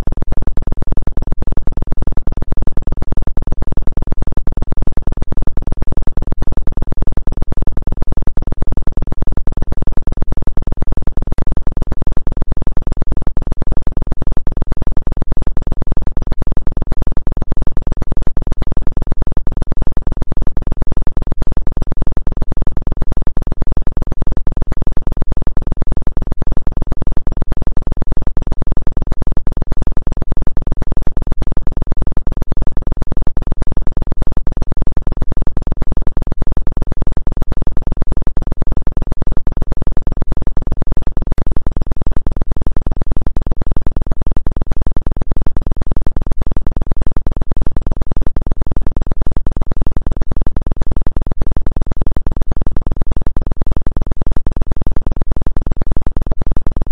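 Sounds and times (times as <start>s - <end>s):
fluttering electronic bass drone: 0.0s - 56.9s.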